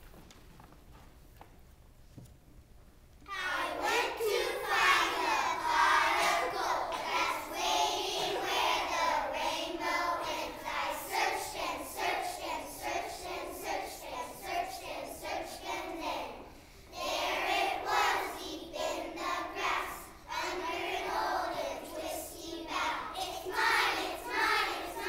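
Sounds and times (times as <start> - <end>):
children singing in unison: 3.3 - 25.0.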